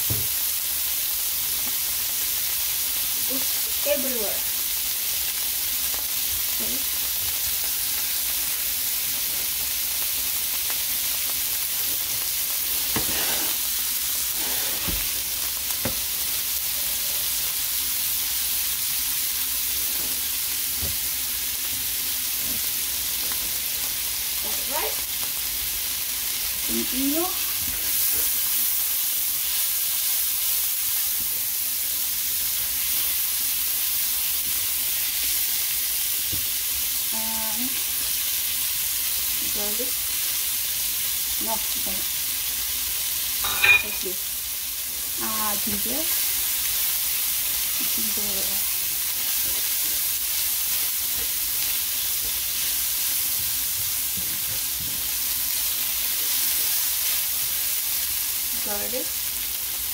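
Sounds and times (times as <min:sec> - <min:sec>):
food sizzling in a pan: 0:00.0 - 0:59.9.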